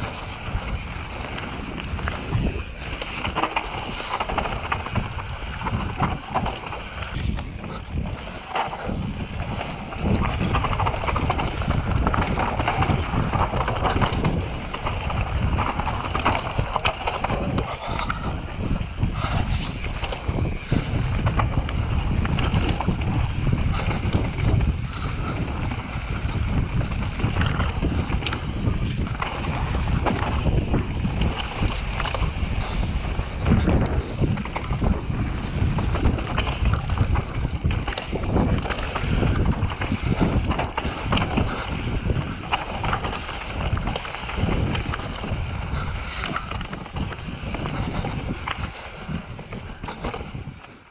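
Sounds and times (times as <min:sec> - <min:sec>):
bike knocks and rattles: 0:00.0 - 0:50.7
bike tyres rumbling on dirt: 0:00.0 - 0:50.9
wind buffeting microphone: 0:00.0 - 0:50.9.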